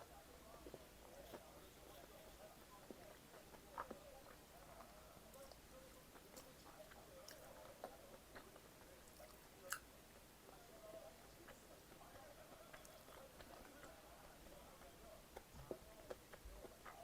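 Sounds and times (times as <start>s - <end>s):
close-up chewing: 0.2s - 17.0s.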